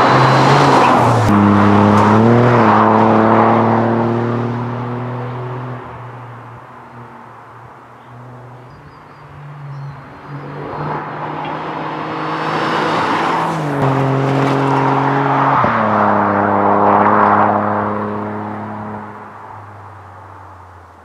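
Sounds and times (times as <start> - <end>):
car engine passing: 0.0 - 20.8
tyre and road noise: 0.0 - 21.0.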